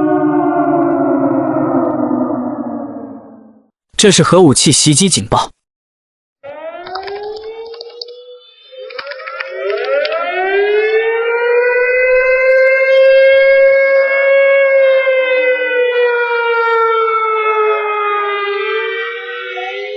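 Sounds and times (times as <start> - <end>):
civil defense siren wailing: 0.0 - 3.8, 6.4 - 19.9.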